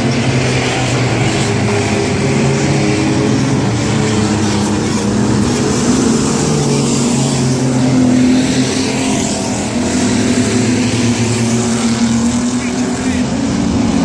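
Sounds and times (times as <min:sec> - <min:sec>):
racing truck engines running hard: 0:00.0 - 0:14.0.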